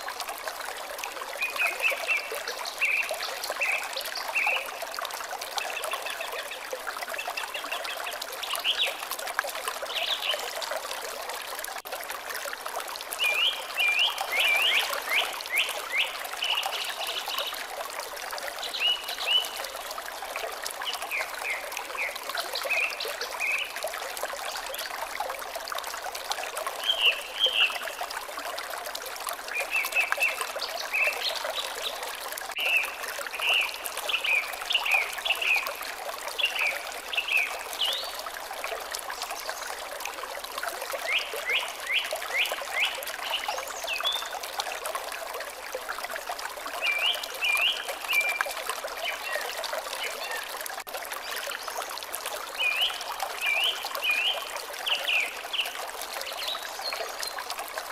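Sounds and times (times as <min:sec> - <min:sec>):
water trickling: 0:00.0 - 0:57.9.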